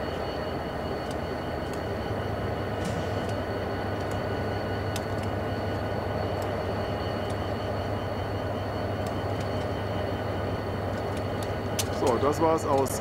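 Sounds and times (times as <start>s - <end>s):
diesel locomotive engine drone: 0.0s - 13.0s
high whine: 0.0s - 13.0s.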